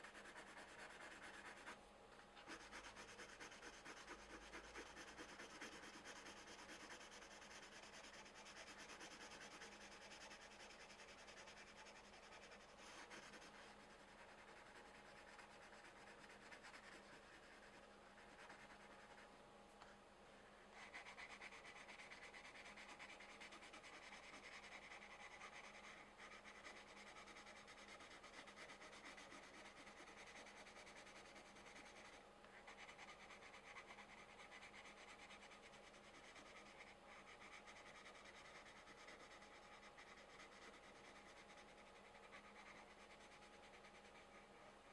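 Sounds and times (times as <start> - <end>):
pencil scratching on paper: 0.0 - 1.8, 2.4 - 19.3, 20.7 - 44.9.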